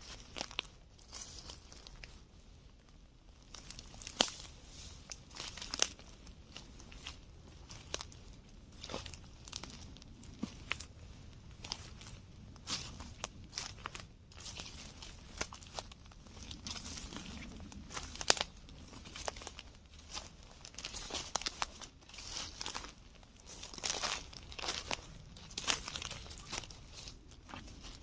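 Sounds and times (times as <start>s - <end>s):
footsteps crunching through dry leaves: 0.0s - 2.2s, 3.4s - 28.0s
twigs cracking: 3.4s - 28.0s.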